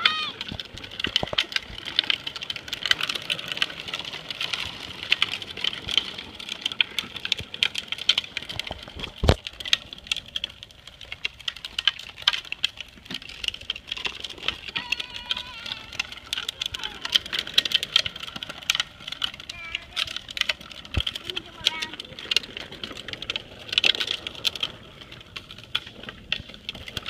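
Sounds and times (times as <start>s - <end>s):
plastic wheels rolling on asphalt: 0.0s - 27.0s.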